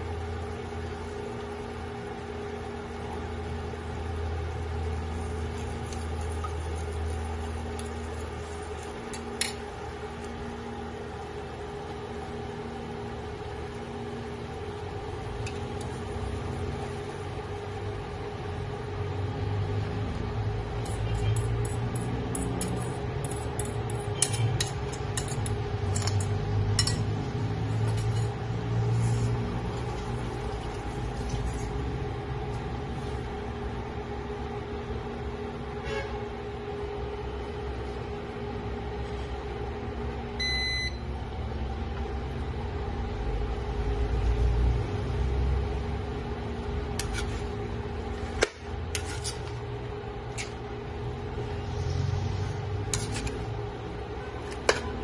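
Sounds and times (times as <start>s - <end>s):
appliance hum: 0.0s - 55.0s.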